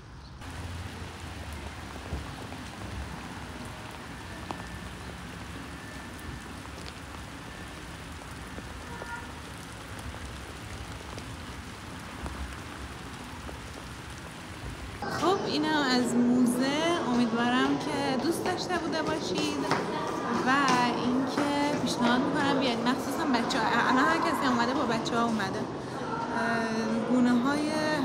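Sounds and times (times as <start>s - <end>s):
steady rain falling: 0.4s - 28.0s.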